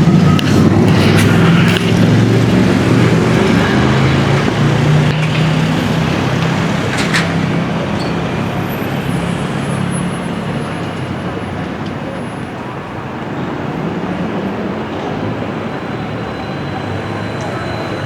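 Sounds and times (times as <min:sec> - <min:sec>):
large vehicle engine droning: 0:00.0 - 0:18.0
street traffic noise: 0:00.0 - 0:18.0.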